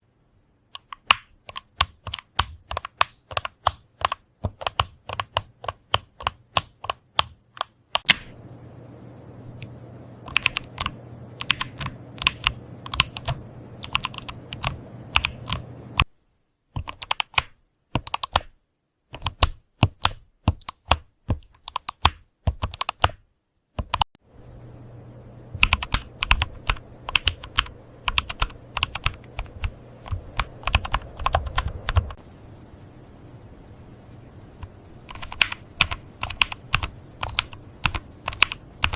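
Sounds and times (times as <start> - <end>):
steady low hum: 0.0 - 17.2, 23.5 - 38.9
computer keyboard typing: 0.7 - 8.3, 9.6 - 16.1, 16.8 - 18.5, 19.1 - 23.2, 23.8 - 24.2, 25.6 - 32.2, 34.6 - 38.9.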